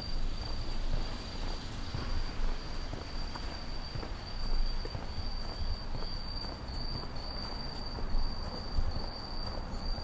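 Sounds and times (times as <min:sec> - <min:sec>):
cricket trilling: 0:00.0 - 0:10.0.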